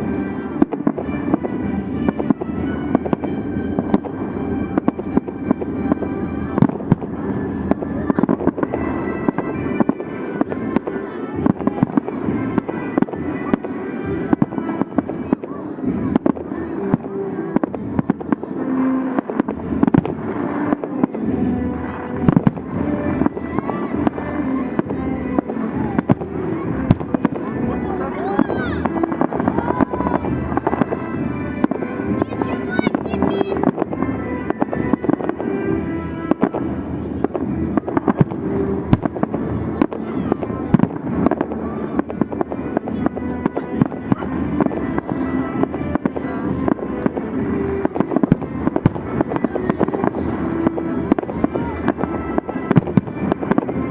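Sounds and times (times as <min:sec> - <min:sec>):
crowd voices: 0:00.0 - 0:53.9
fireworks bangs: 0:00.0 - 0:53.9.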